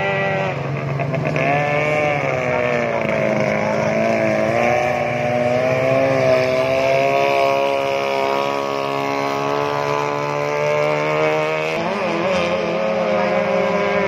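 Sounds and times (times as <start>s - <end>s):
speedboat engine at high revs: 0.0s - 14.0s.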